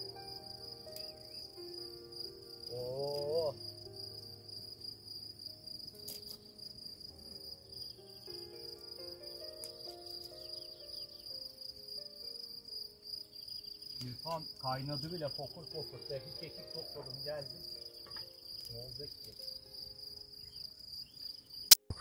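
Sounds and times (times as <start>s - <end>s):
crickets chirring: 0.0s - 21.8s.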